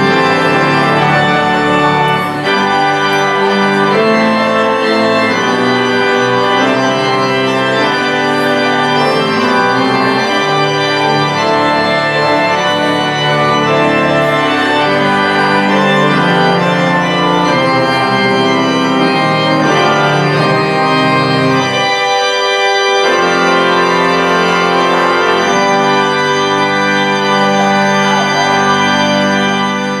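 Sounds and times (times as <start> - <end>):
organ playing sustained chords: 0.0 - 30.0.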